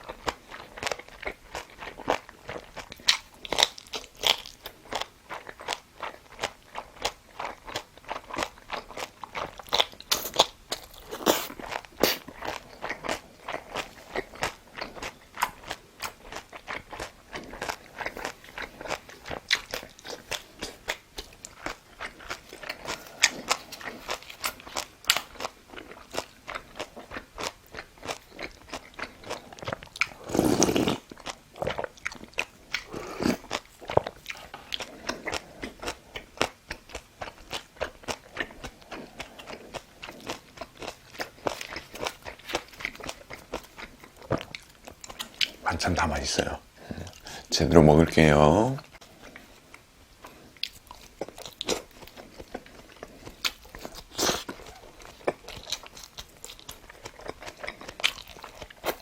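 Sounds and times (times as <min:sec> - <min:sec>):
person chewing food: 0:00.0 - 0:47.6, 0:48.8 - 0:59.0.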